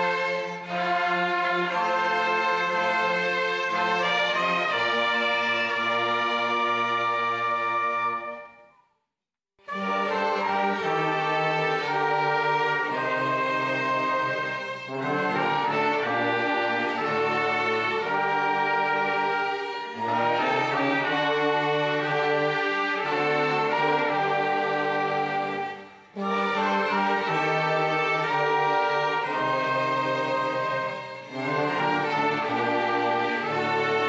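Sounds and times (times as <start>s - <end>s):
orchestra playing slow hymn: 0.0s - 8.5s, 9.7s - 34.0s.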